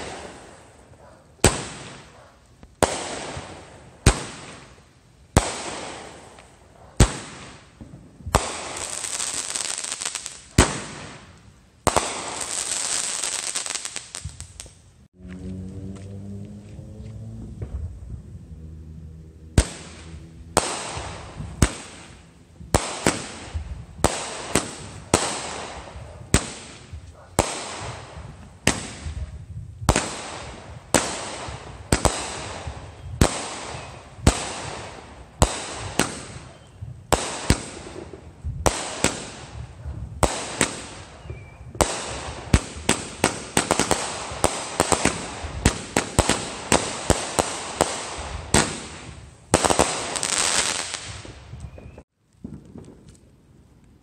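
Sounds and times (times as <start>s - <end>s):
firework bangs: 0.0s - 14.8s, 17.4s - 18.3s, 19.5s - 53.2s
firework crackle: 0.0s - 15.0s, 19.5s - 54.0s.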